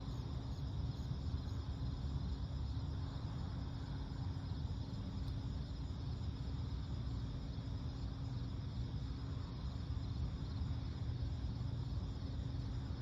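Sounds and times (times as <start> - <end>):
crickets trilling: 0.0 - 13.0
low background rumble: 0.0 - 13.0.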